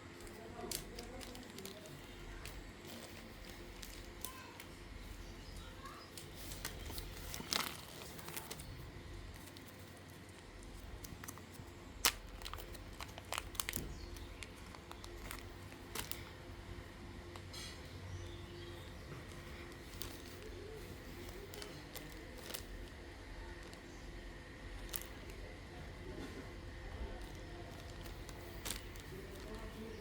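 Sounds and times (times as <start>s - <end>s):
light clicks and rustles of clay: 0.1s - 30.0s.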